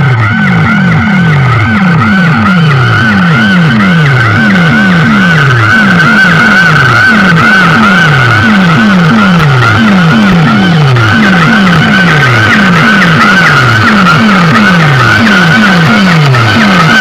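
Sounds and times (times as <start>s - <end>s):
falling bass sweep: 0.0s - 17.0s
high warbling tone: 0.0s - 17.0s
loud electronic music: 0.0s - 17.0s.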